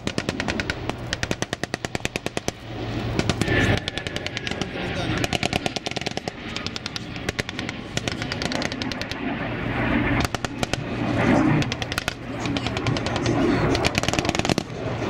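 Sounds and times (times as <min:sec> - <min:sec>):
automatic weapons firing: 0:00.0 - 0:09.2, 0:10.2 - 0:11.0, 0:11.6 - 0:14.8.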